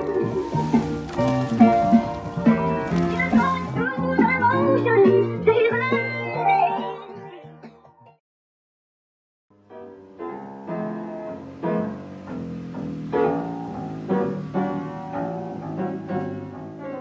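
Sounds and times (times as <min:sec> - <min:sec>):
upright piano playing: 0:00.0 - 0:08.0, 0:09.5 - 0:17.0.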